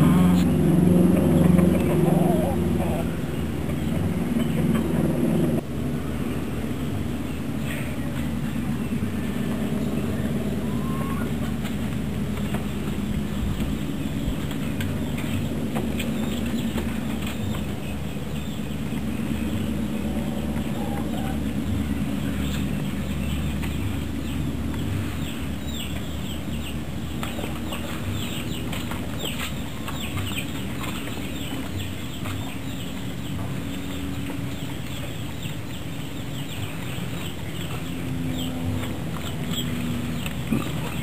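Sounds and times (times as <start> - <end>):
birds chirping: 0.0 - 41.0
low rumble: 0.0 - 41.0.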